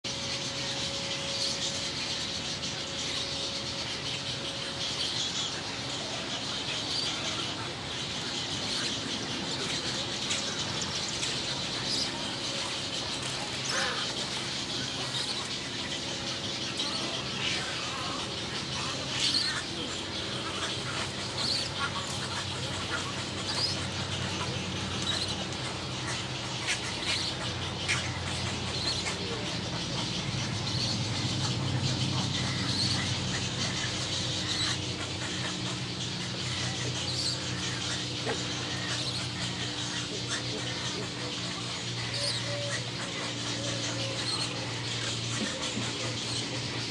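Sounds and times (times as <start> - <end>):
birds chirping: 0.0 - 46.9
low background hum: 0.0 - 46.9.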